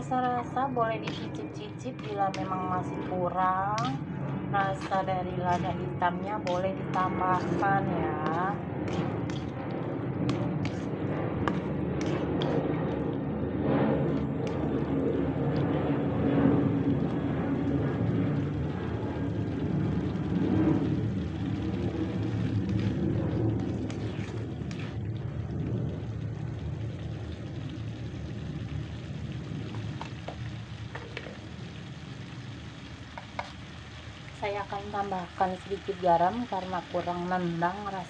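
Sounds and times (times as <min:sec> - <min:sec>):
low rumble: 0:00.0 - 0:38.0
sauce bubbling and sizzling in pan: 0:00.0 - 0:38.0.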